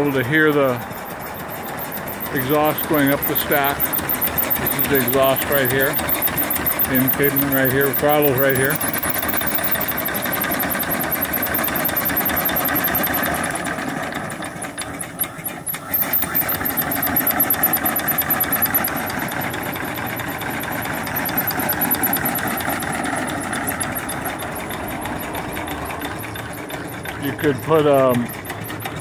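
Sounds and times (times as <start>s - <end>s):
steam engine chuffing: 0.0s - 29.0s.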